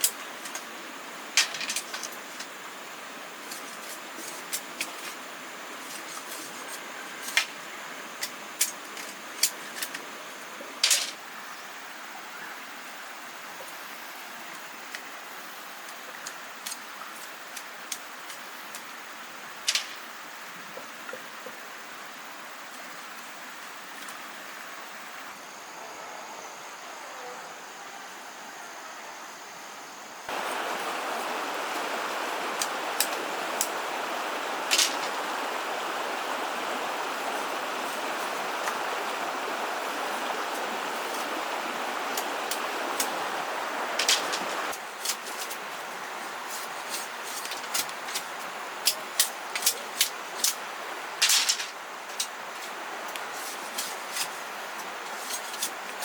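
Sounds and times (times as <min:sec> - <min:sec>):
rush like running water: 0:00.0 - 0:25.3, 0:30.3 - 0:56.0
steady background hiss: 0:00.0 - 0:56.0.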